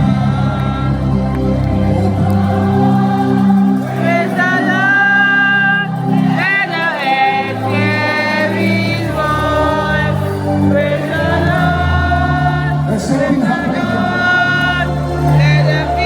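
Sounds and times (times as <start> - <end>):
choir singing held notes: 0.0 - 16.0
sustained bass line: 0.0 - 16.0.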